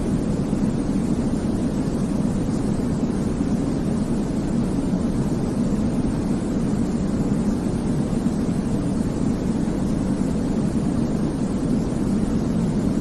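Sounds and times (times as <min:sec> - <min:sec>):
deep white noise rumble: 0:00.0 - 0:13.0.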